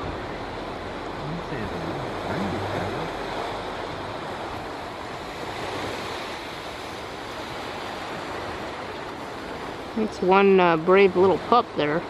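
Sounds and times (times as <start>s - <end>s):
ocean surf on a beach: 0.0s - 12.0s.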